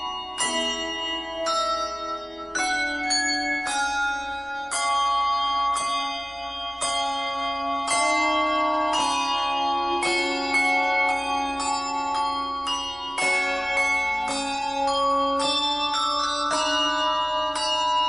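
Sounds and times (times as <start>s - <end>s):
struck bell tones music: 0.0s - 18.0s.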